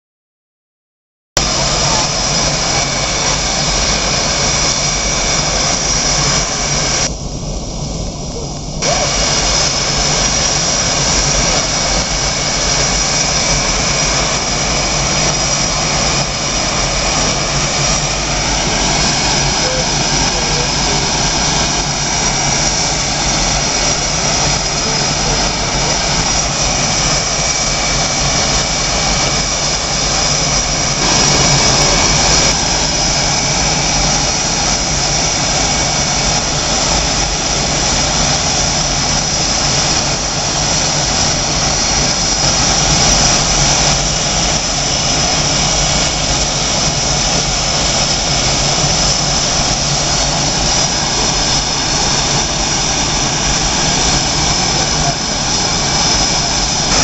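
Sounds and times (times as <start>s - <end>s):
jet engines whining: 1.4s - 57.0s.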